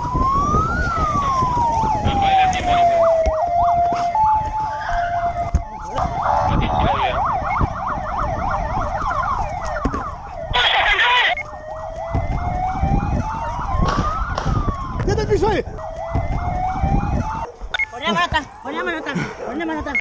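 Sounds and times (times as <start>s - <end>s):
police sirens wailing and yelping: 0.0s - 20.0s.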